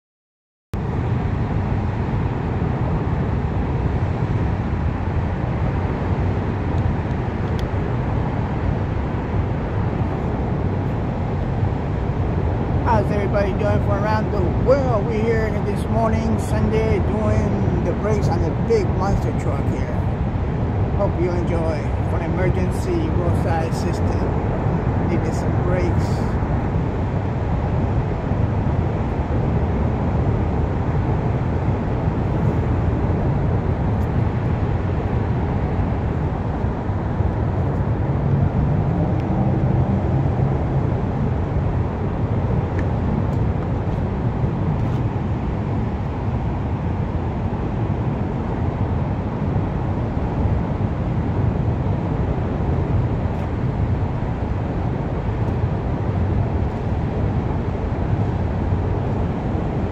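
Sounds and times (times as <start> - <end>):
low rumble of road traffic: 0.8 - 59.9
vehicle engine hum: 0.8 - 59.9.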